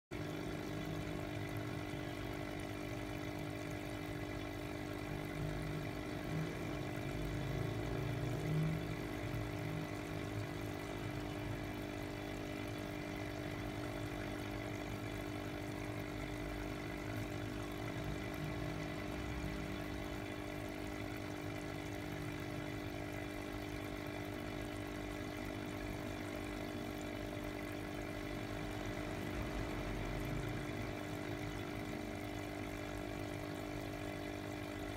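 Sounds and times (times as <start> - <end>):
aquarium pump humming: 0.1 - 34.9.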